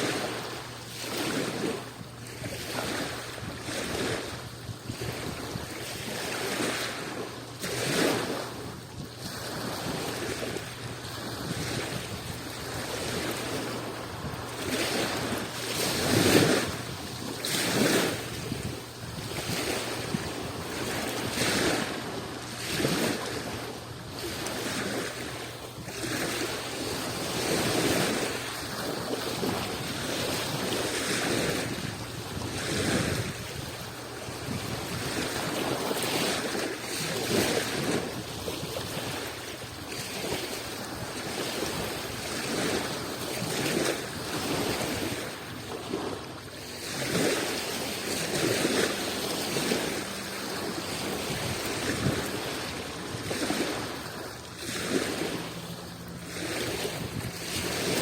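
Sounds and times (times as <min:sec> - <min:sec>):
rush of surf: 0:00.0 - 0:58.0
small waves breaking on shore: 0:00.0 - 0:58.0.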